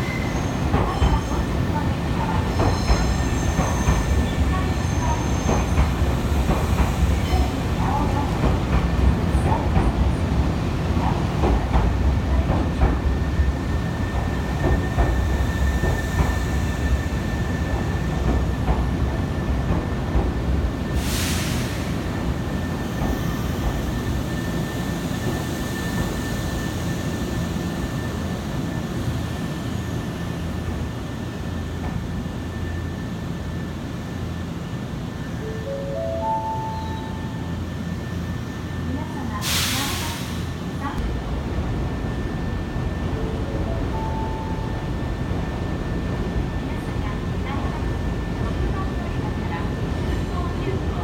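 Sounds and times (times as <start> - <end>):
train rumble: 0.0 - 51.0.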